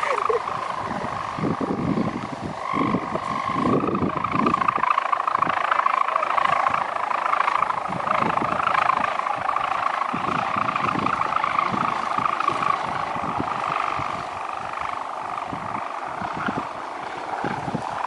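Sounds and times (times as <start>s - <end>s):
kite hummer buzzing: 0.0s - 18.0s
wind rumbling on microphone: 0.0s - 18.0s.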